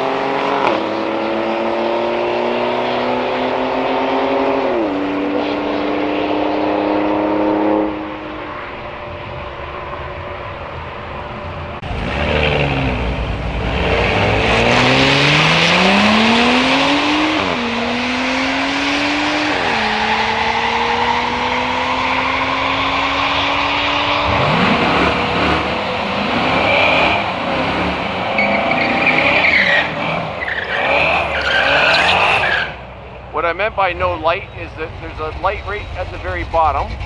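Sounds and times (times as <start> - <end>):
drag racing car accelerating: 0.0 - 37.0.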